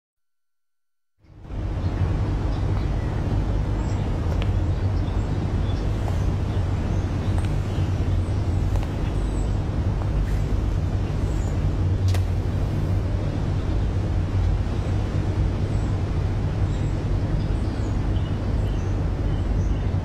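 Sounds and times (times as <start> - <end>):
motor vehicle rumble: 1.3 - 20.0.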